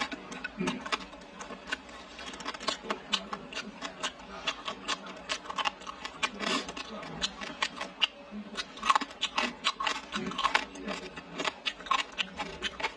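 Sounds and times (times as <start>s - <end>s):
mouth chewing food: 0.0s - 12.9s.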